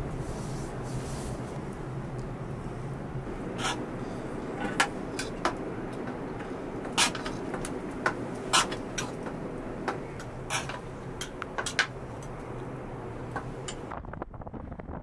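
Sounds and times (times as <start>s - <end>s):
wood fire crackling: 0.0s - 13.9s.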